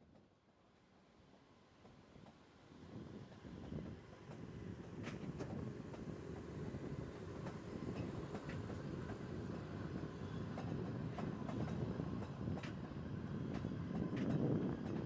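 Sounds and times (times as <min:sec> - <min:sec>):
train rumbling: 0:01.8 - 0:15.0.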